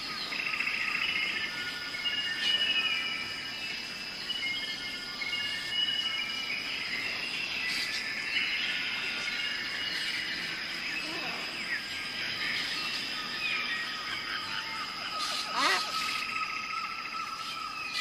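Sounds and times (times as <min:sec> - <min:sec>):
birds chattering and chirping: 0:00.0 - 0:18.0
high insect drone: 0:00.0 - 0:18.0.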